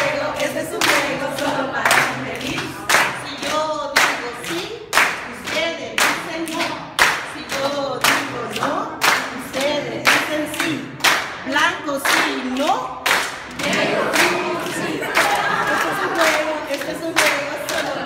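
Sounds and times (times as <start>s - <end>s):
group singing call-and-response song: 0.0s - 18.0s
hands clapping in rhythm: 0.0s - 18.0s.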